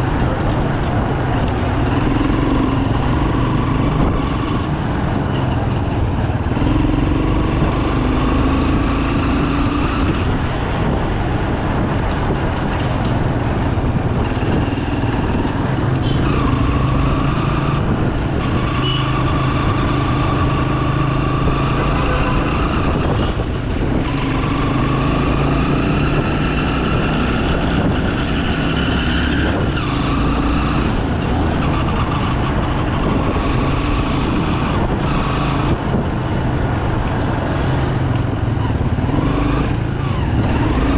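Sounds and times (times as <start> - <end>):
motorcycle engine accelerating: 0.0 - 40.9
road and wind noise: 0.0 - 40.9.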